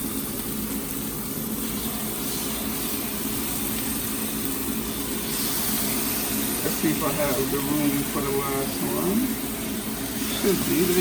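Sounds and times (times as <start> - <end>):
chicken sizzling in frying pan: 0.0 - 11.0.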